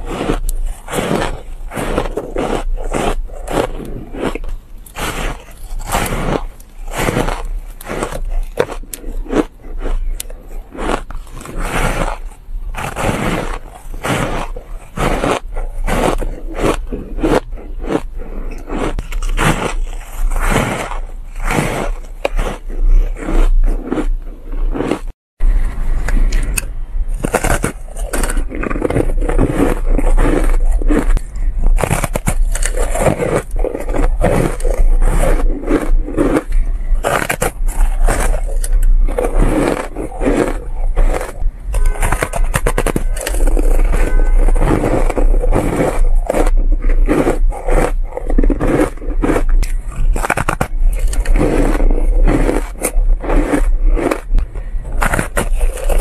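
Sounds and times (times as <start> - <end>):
crunching shaved ice: 0.0 - 56.0
low steady hum: 0.0 - 56.0.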